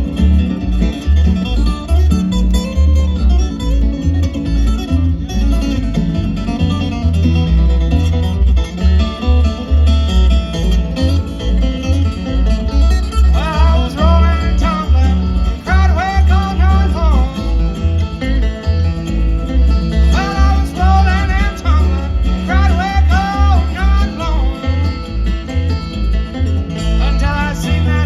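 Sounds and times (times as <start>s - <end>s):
bluegrass band playing: 0.0s - 28.0s
sliding lead line: 0.0s - 28.0s.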